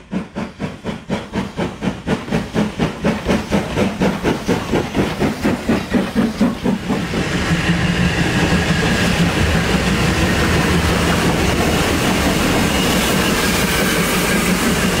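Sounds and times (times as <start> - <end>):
steam locomotive exhaust beats: 0.0 - 15.0
steam locomotive rumble and hiss: 0.0 - 15.0.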